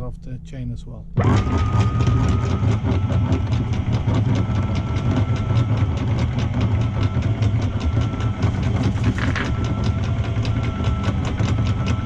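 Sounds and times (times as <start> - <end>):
diesel engine idling: 1.6 - 12.0.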